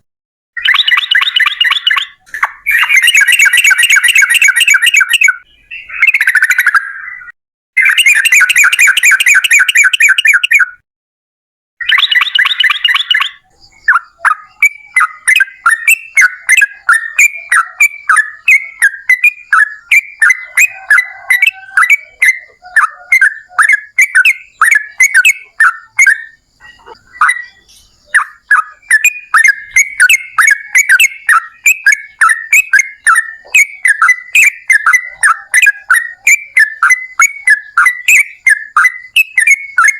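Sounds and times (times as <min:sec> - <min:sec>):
bird singing bubbling notes: 0:00.6 - 0:10.8, 0:11.8 - 0:39.9.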